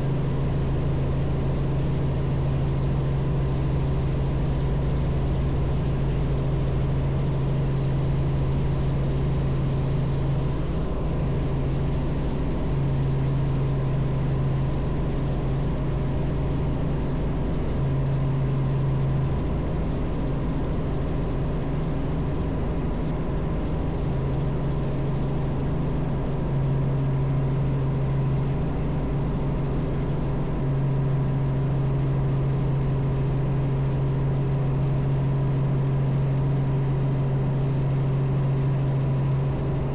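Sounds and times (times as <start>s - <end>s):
helicopter droning: 0.0s - 39.9s.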